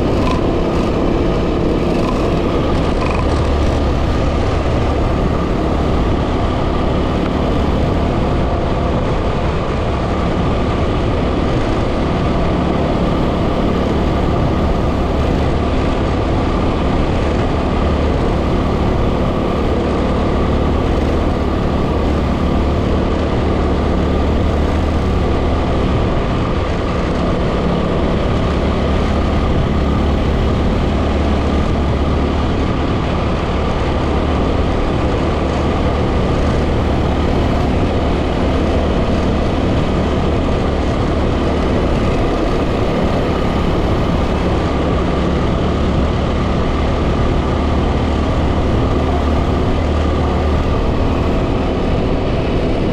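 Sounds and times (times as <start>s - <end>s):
motorcycle engine running: 0.0s - 52.9s
wind noise on microphone: 0.0s - 52.9s.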